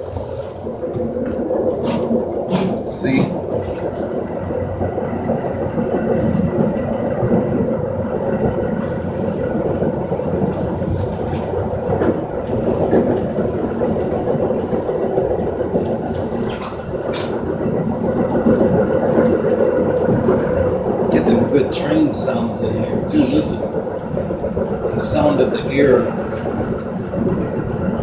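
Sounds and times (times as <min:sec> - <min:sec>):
rail joint clicks: 0:00.0 - 0:28.0
train wheels rumbling on track: 0:00.0 - 0:28.0.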